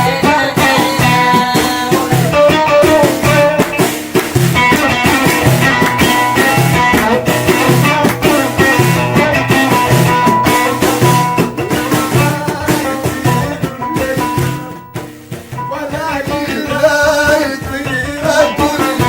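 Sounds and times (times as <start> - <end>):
plucked string instruments: 0.0 - 19.0
steady drum beat: 0.0 - 19.0.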